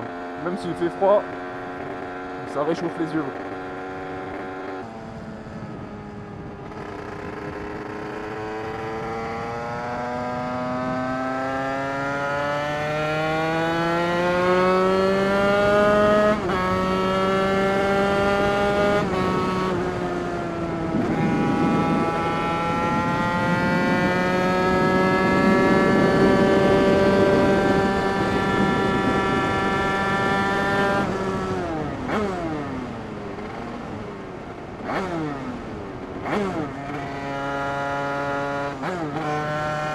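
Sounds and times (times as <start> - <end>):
two-stroke engine accelerating: 0.0 - 39.9.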